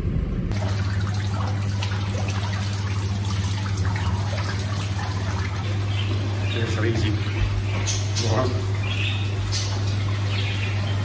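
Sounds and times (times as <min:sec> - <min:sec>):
steady low hum: 0:00.0 - 0:11.0
water trickling and dripping: 0:00.5 - 0:11.0.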